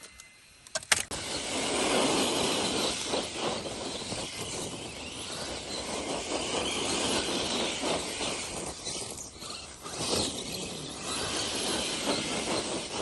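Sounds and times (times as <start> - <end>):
rc crawler grinding over rocks: 1.1 - 13.0.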